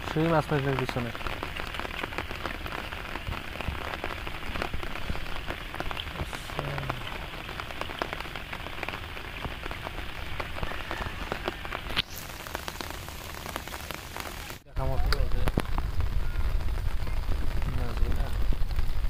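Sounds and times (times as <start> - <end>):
rain falling on water: 0.0 - 19.0.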